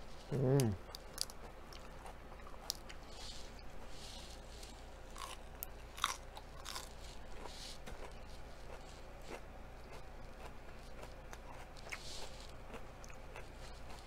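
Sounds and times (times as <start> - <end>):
crunchy lettuce bites: 0.1 - 14.0
wet chewing: 0.3 - 14.0.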